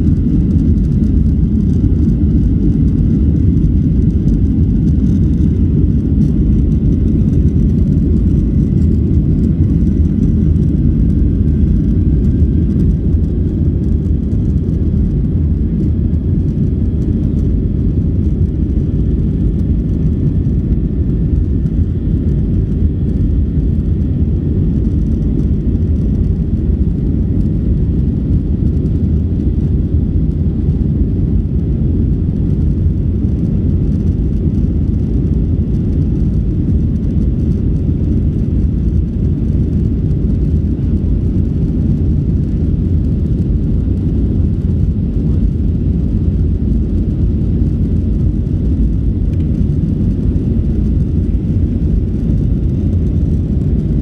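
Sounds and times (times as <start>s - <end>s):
engine and airflow rumble: 0.0s - 54.0s
faint high engine whine: 0.0s - 54.0s.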